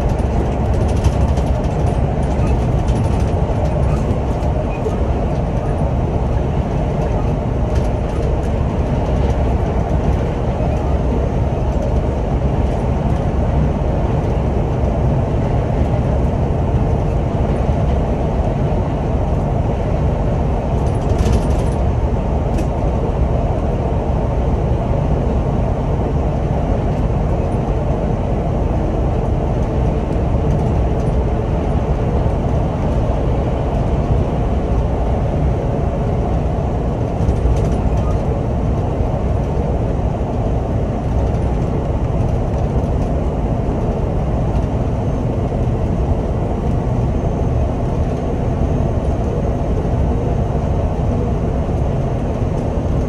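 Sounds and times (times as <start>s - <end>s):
bus engine drone: 0.0s - 53.0s
tyre and road noise: 0.0s - 53.0s.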